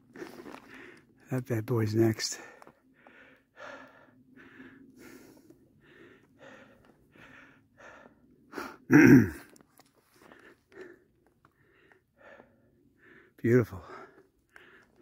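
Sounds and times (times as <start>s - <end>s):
person breathing hard: 0.2s - 1.1s, 2.4s - 8.9s, 10.0s - 15.0s.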